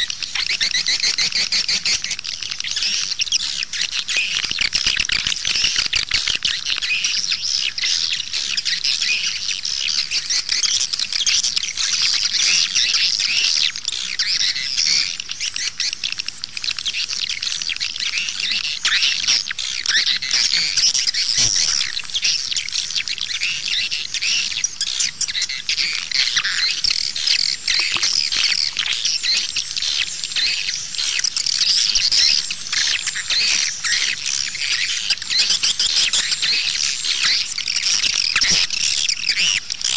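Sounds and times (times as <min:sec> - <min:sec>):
swiftlets chirping and twittering: 0:00.0 - 0:39.9.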